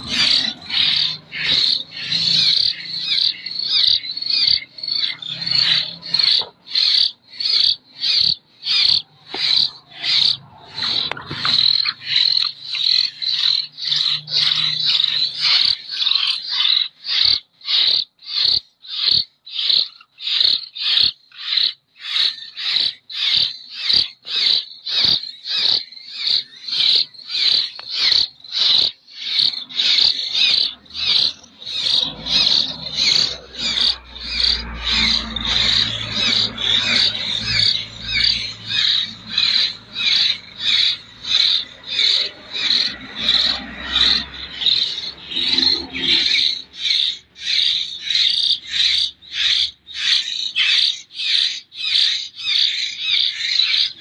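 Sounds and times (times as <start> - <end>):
bird chicks begging calls: 0.0 - 54.0.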